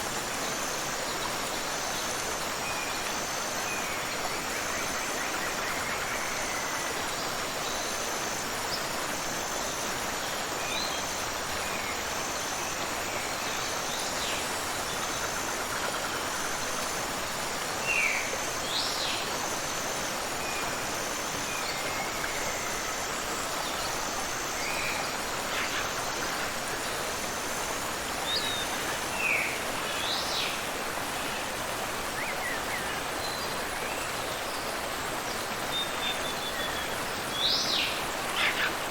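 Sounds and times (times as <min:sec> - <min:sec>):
waterfall and river rushing: 0:00.0 - 0:38.9.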